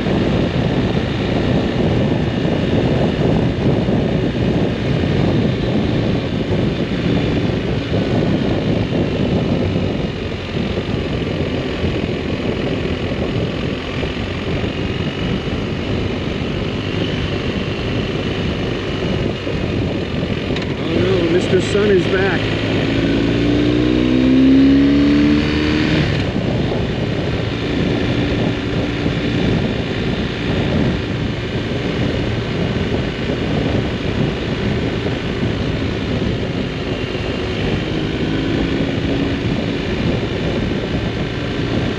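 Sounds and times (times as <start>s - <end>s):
motorcycle engine running: 0.0s - 41.9s
wind buffeting camera: 0.0s - 41.9s.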